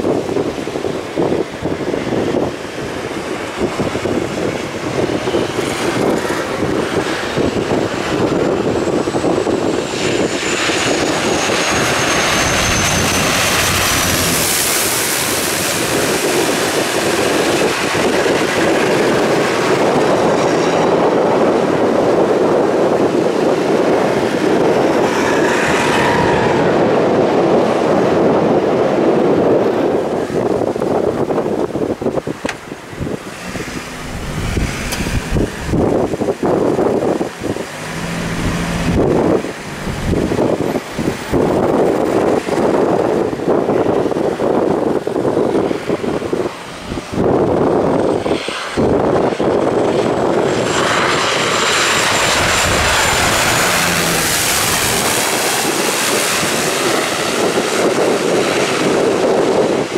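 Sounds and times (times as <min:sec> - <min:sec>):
turboprop aircraft engines whining: 0:00.0 - 0:59.9
wind buffeting microphone: 0:00.0 - 0:59.9.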